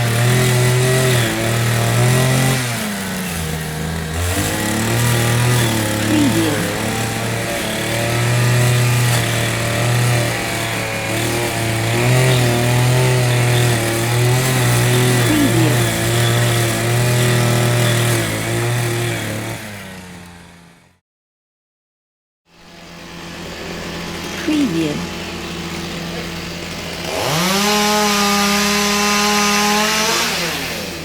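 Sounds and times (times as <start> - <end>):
small engine cutting machine running: 0.0 - 21.0, 22.5 - 31.0.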